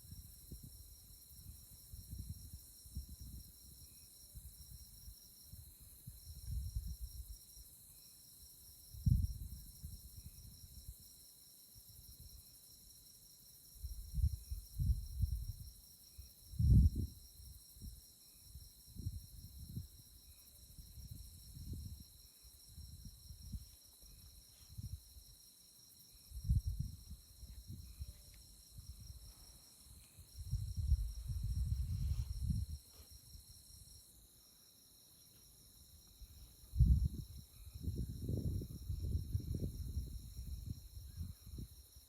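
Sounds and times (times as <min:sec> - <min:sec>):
wind rumbling on microphone: 0:00.0 - 0:07.5, 0:08.8 - 0:11.1, 0:13.8 - 0:25.4, 0:26.2 - 0:34.0, 0:35.8 - 0:42.0
night insects trilling: 0:00.0 - 0:42.0.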